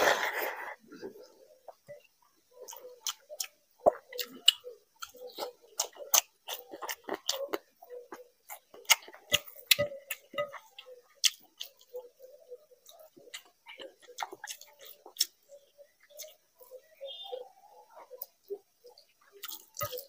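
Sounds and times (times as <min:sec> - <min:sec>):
wet chewing and mouth smacking: 0:02.6 - 0:16.8, 0:18.0 - 0:20.0.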